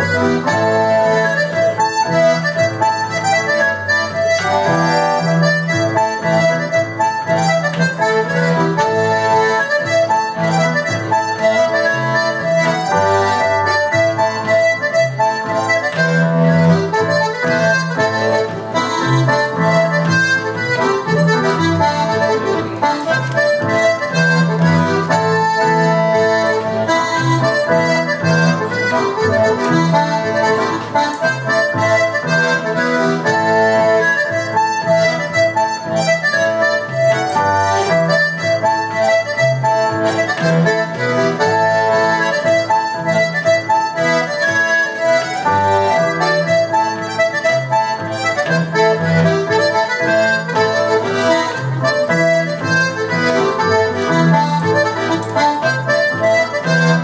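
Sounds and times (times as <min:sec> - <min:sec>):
button accordion playing a polka: 0:00.0 - 0:57.0
keyboard bass accompaniment: 0:00.0 - 0:57.0.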